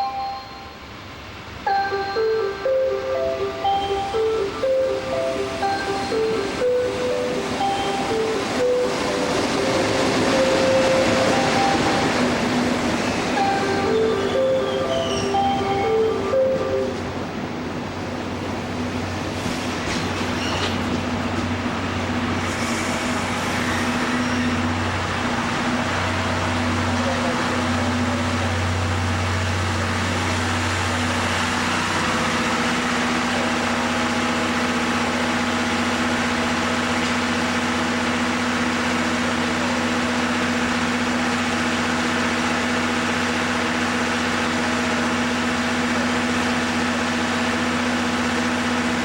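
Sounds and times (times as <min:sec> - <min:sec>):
train equipment humming: 0:00.0 - 0:49.0.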